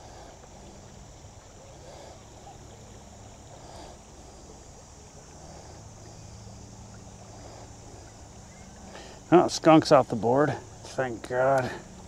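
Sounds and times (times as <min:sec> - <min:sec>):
shallow river flowing: 0:00.0 - 0:12.0.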